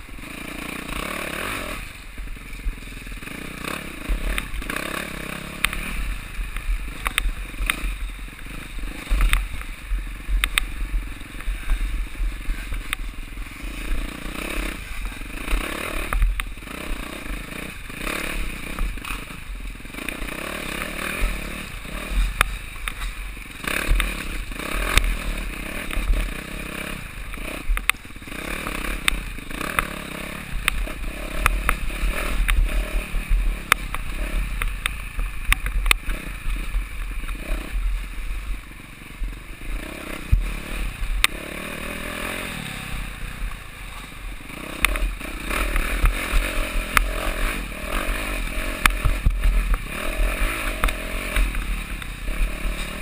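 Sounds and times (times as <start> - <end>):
motorcycle engine running hard: 0.0 - 53.0.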